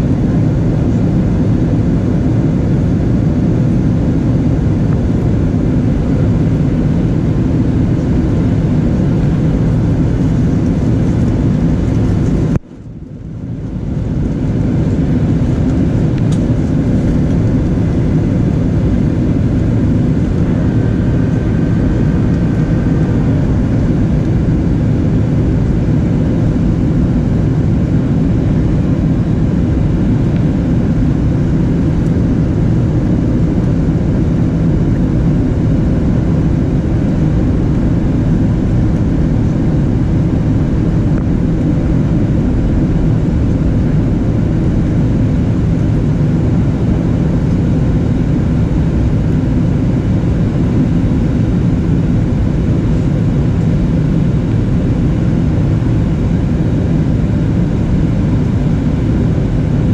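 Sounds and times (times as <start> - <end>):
airplane cabin noise: 0.0 - 59.9.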